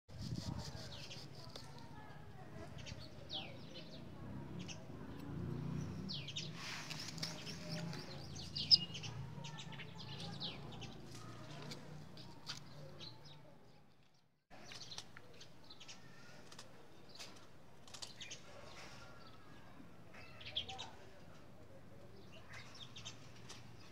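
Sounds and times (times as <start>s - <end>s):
small birds chirping: 0.2s - 23.9s.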